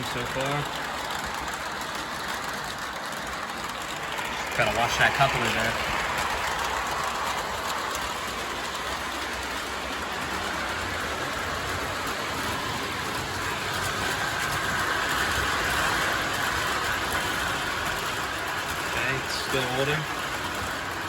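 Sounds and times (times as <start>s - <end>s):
model train wheels rolling: 0.0s - 21.0s
motor hum: 0.0s - 21.0s.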